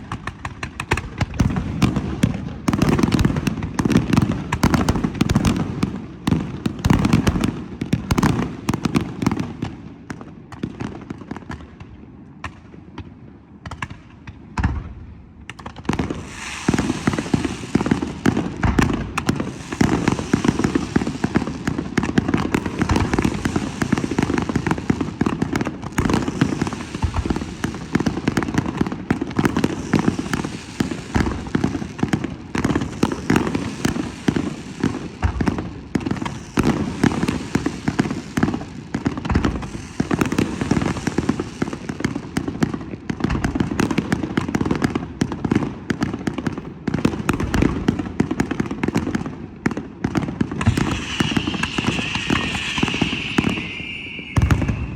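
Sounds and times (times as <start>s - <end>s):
fireworks bangs and crackling: 0.0s - 54.9s.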